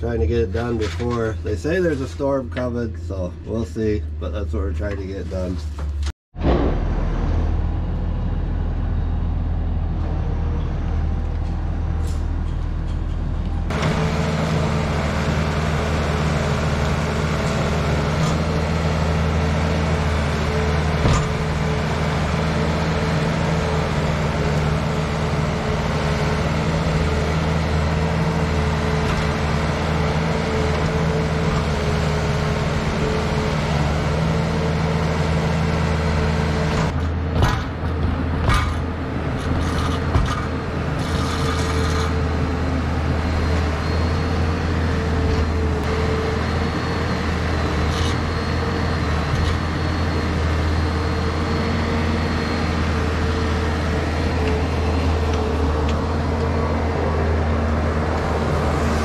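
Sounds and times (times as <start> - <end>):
loader diesel engine running: 0.0 - 59.0.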